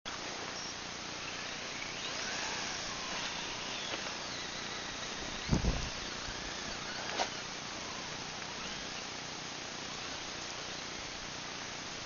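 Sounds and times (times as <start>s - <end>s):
electric motor whine: 0.1s - 12.0s.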